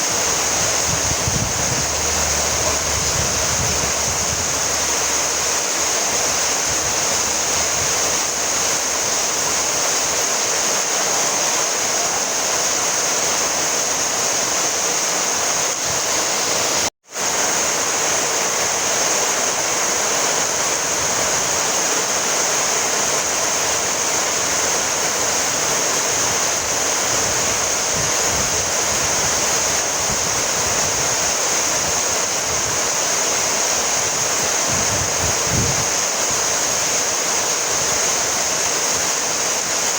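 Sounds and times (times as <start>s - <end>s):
dense rainfall hiss: 0.0s - 39.9s.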